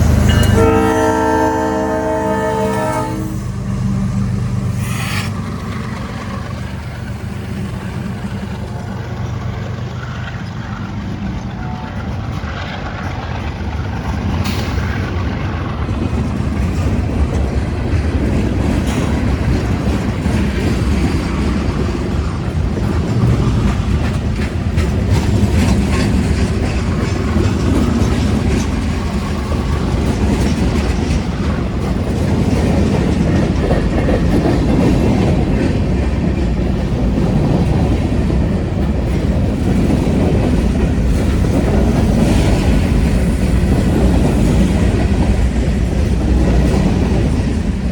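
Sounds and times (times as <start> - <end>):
clickety-clack over rail joints: 0.0 - 47.9
wheels rumbling on rail: 0.0 - 47.9.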